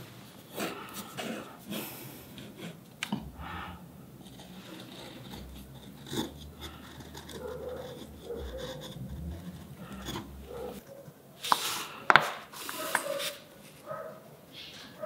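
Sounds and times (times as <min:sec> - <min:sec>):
chisel scraping wood: 0:00.5 - 0:13.4.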